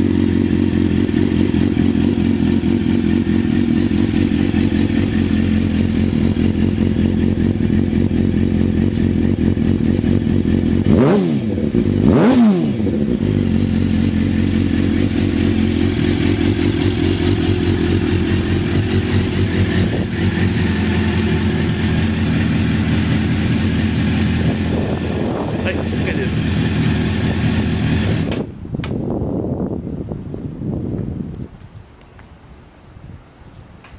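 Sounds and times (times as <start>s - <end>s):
motorcycle engine idling and revving: 0.0s - 31.3s.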